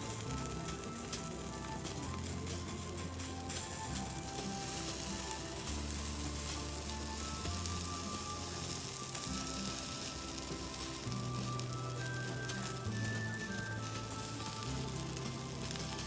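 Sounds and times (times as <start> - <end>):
bark fire crackling and hissing: 0.0 - 16.0
soft music of held notes: 0.0 - 16.0.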